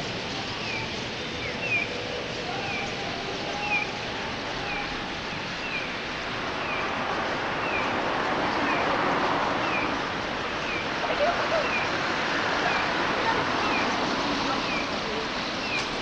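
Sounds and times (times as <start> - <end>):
flock of starlings chattering: 0.0 - 16.0.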